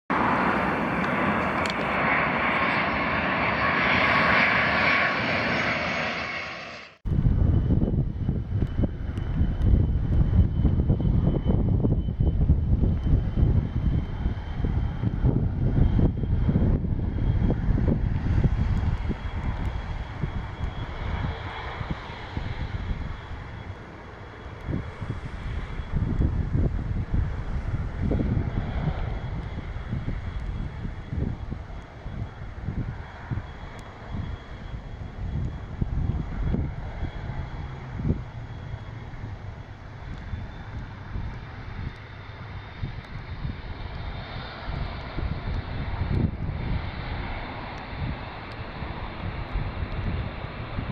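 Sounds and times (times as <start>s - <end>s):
aircraft engine noise: 0.1s - 50.9s
wind rumble on microphone: 7.0s - 50.9s.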